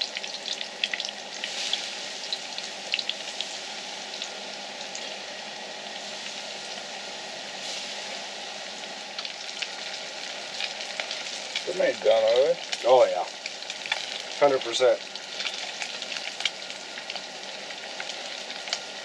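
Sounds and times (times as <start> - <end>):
fish frying in shortening: 0.0 - 19.0.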